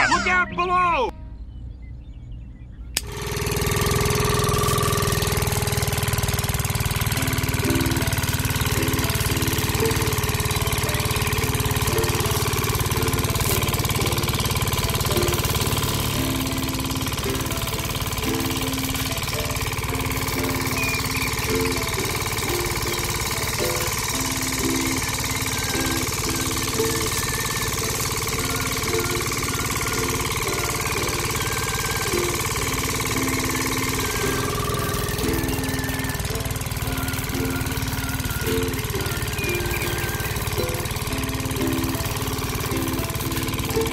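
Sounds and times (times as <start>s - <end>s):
rice stalks being threshed: 3.0s - 43.9s
small electric motor humming: 3.0s - 43.9s.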